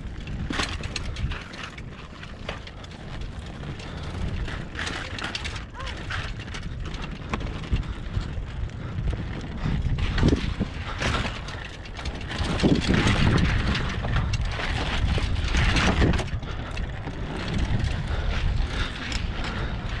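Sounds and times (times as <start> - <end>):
bike rolling rumble: 0.0 - 20.0
wind on microphone: 3.0 - 20.0.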